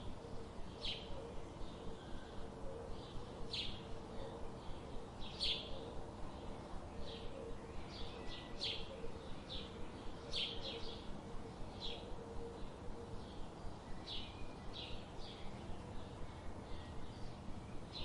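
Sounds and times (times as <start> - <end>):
background hiss: 0.0 - 18.0
small birds chirping: 0.0 - 18.0.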